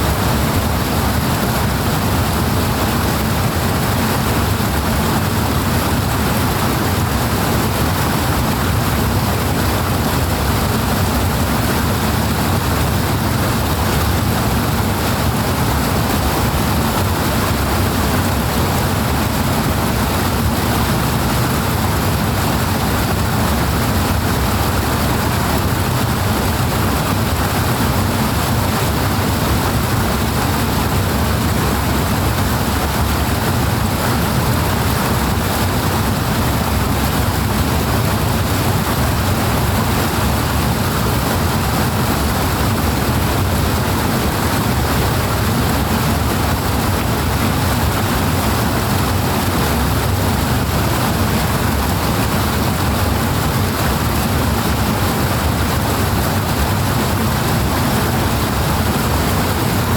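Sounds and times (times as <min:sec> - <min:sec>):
water rushing powerfully: 0:00.0 - 0:59.9.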